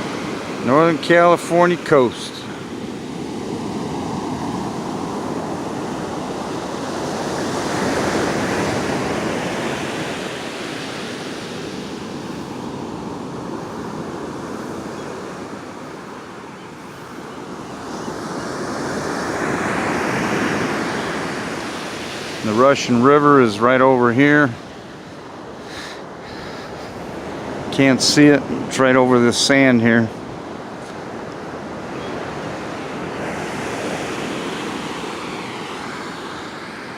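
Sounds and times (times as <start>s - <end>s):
waves washing onto beach: 0.0s - 36.9s.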